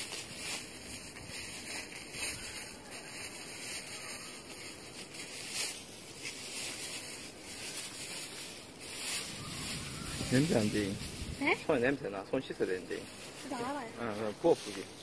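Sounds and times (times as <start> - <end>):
hissy outdoor noise: 0.0 - 15.0
soft rustling: 0.0 - 15.0.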